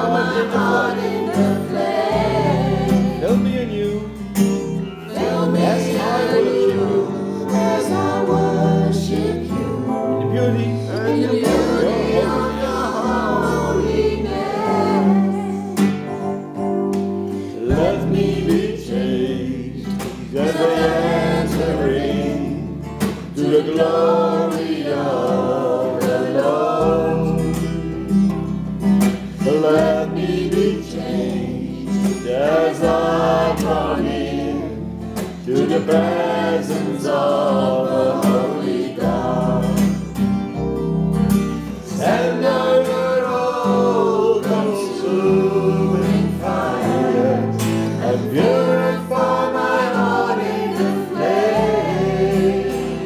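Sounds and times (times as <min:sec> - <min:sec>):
choir singing: 0:00.0 - 0:40.9, 0:41.5 - 0:53.0.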